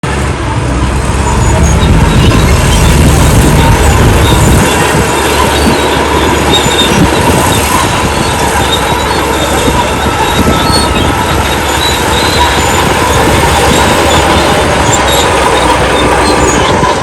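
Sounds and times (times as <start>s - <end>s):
diesel engine running: 0.0s - 17.0s
crawler tracks clattering: 0.1s - 17.0s.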